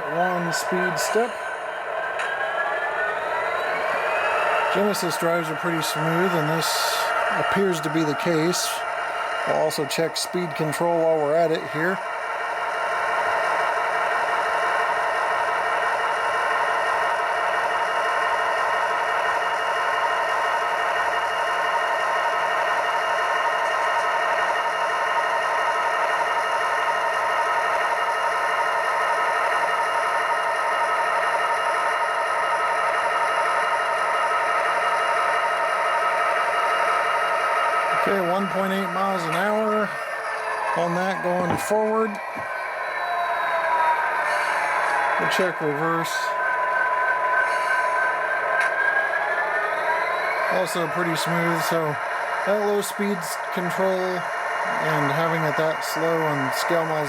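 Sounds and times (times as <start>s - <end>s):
model locomotive diesel engine sound: 0.0s - 57.0s.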